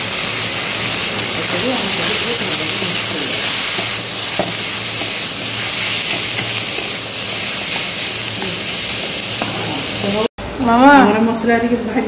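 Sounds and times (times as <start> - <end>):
onions sizzling in hot oil: 0.0 - 10.3.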